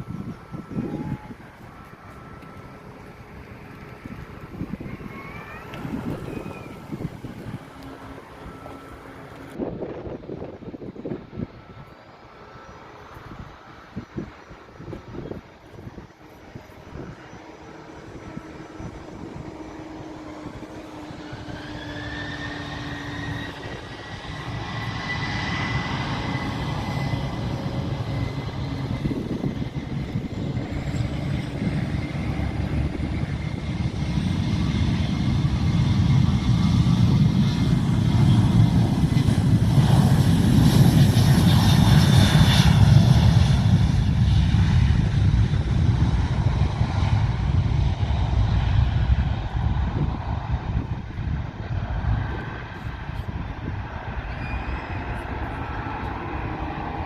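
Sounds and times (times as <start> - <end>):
airplane engines passing: 0.0 - 57.0
high turbine whine: 0.0 - 57.0.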